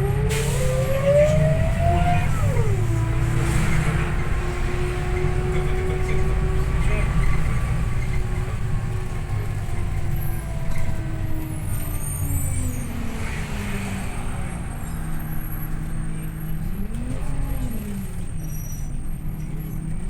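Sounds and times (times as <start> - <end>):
bus drivetrain whine: 0.0 - 20.0.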